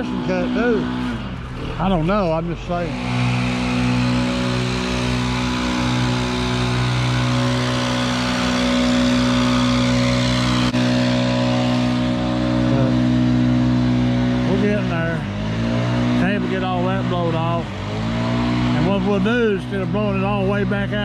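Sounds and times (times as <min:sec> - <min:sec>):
leaf blower engine running: 0:00.0 - 0:21.0.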